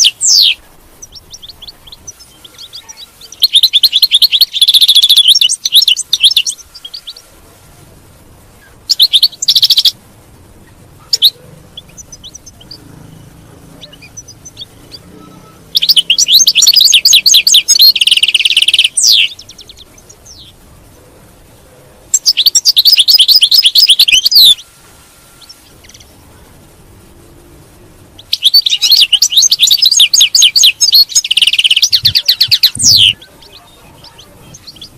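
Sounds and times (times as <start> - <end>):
bird twittering trills: 0.0 - 7.3, 8.5 - 10.0, 10.6 - 20.6, 22.0 - 26.2, 28.1 - 34.9.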